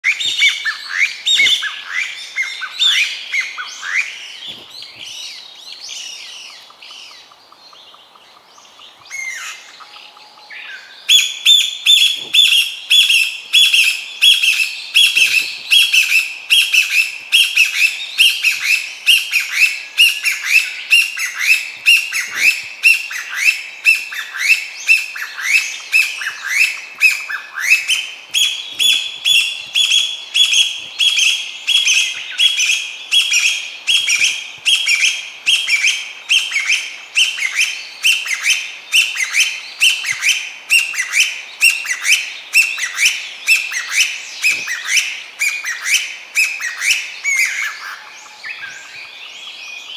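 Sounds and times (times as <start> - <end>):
partridge calling shrill notes: 9.1 - 49.2.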